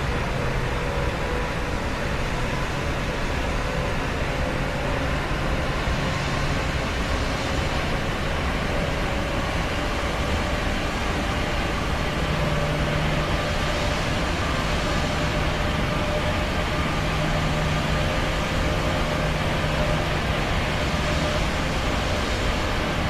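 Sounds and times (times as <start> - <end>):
rushing air in airplane cabin: 0.0 - 23.0.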